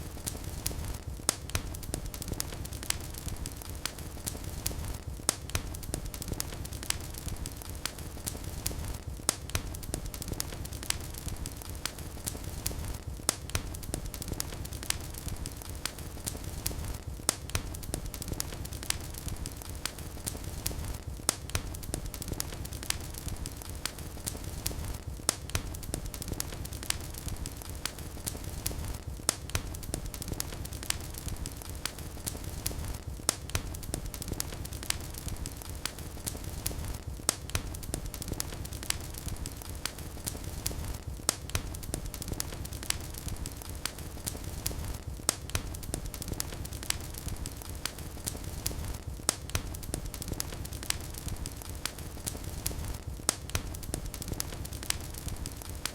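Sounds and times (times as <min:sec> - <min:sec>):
fire crackling and popping: 0:00.0 - 0:55.9
low rumble of flames: 0:00.0 - 0:55.9.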